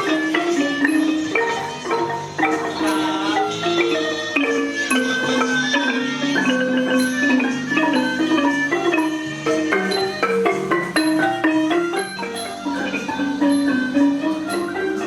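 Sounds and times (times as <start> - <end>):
mallet percussion melody: 0.0 - 15.0.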